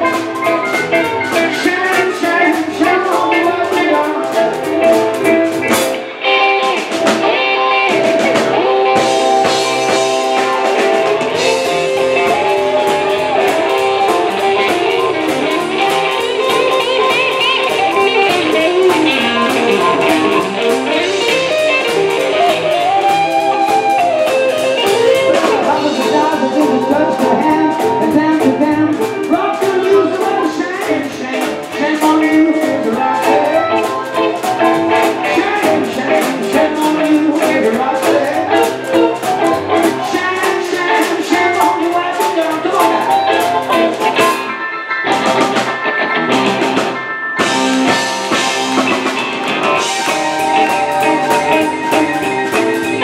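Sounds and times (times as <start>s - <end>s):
person singing: 0.0s - 44.6s, 49.7s - 53.0s
live rock and roll band: 0.0s - 53.0s.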